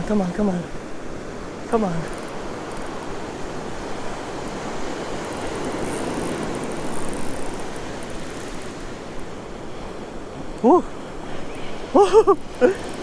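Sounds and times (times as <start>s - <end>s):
ocean surf washing up beach: 0.0s - 13.0s.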